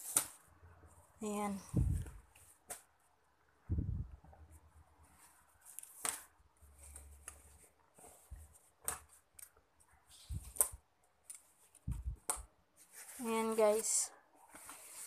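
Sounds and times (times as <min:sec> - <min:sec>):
fabric rustling: 0:00.0 - 0:09.3, 0:10.2 - 0:15.0.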